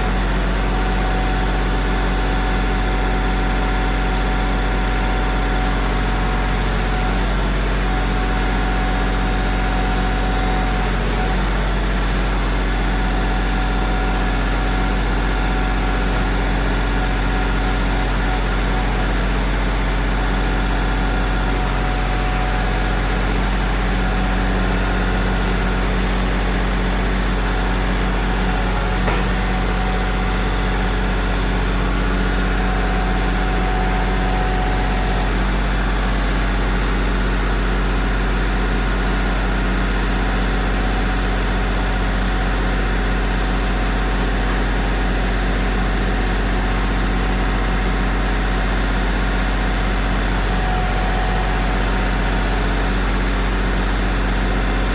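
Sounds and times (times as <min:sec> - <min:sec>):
loader engine running: 0:00.0 - 0:54.9.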